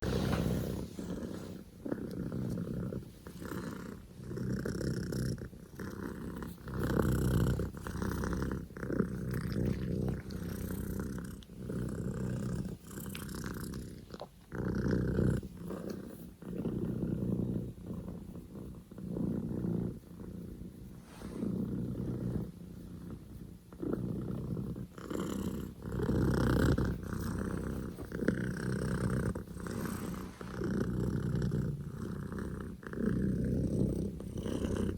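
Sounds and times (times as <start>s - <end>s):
kitten purring loudly: 0.0s - 34.9s.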